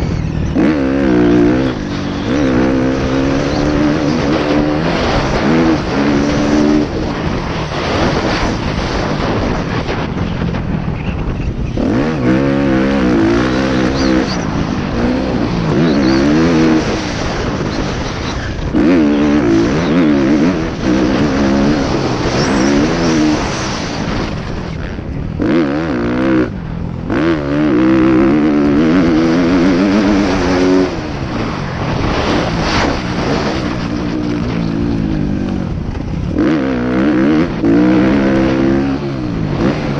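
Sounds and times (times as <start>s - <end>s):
motocross bike engine revving: 0.0s - 10.5s, 11.5s - 39.9s.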